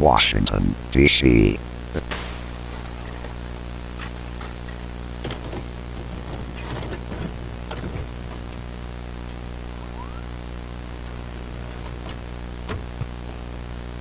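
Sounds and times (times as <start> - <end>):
electrical hum: 0.0 - 14.0
static hiss: 0.0 - 14.0.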